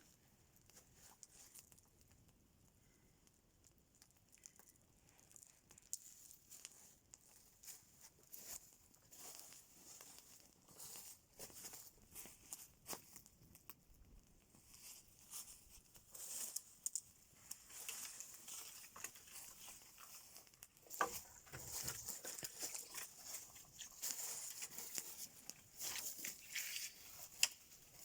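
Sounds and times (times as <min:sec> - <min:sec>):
light crackling and rustling: 0:00.0 - 0:28.0.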